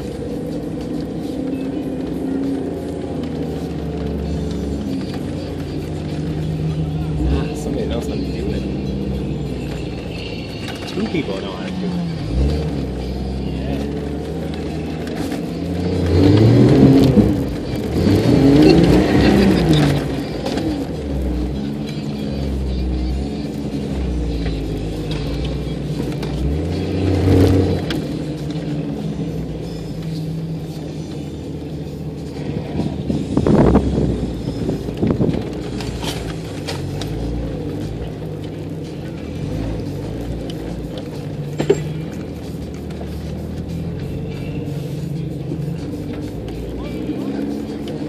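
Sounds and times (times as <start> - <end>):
jeep engine revving: 0.0 - 48.0.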